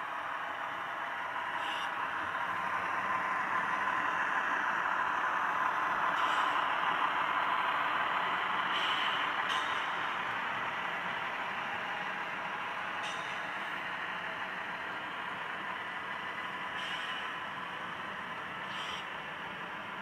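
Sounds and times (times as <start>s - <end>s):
model train wheels rolling on rails: 0.0s - 20.0s.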